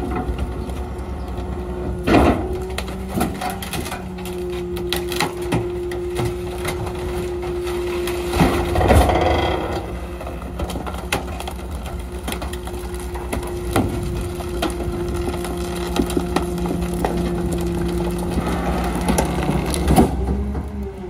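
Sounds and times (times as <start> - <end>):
trash cracking and splintering: 0.0 - 21.0.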